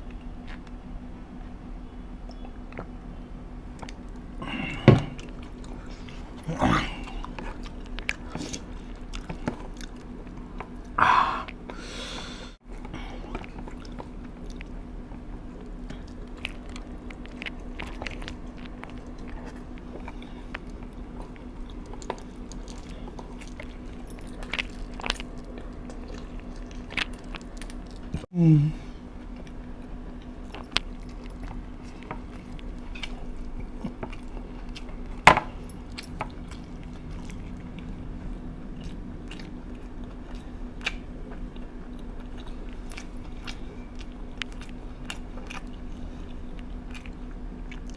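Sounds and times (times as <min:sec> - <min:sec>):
person chewing crunchy food: 0:00.0 - 0:28.3, 0:28.9 - 0:47.9
steady low hum: 0:00.0 - 0:47.9.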